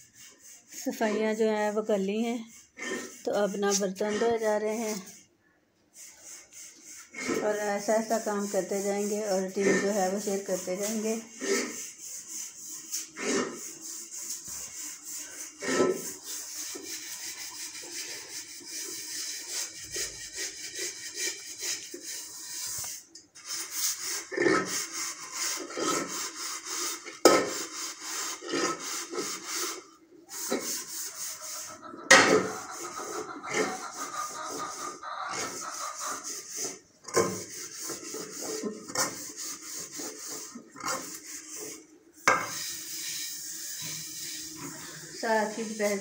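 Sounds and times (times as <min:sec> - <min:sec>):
scrubbing pots and dishes: 0:05.9 - 0:46.0.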